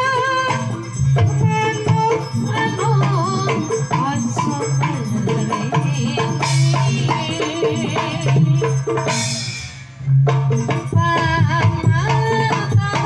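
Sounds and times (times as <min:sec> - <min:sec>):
drums and struck percussion: 0:00.0 - 0:13.0.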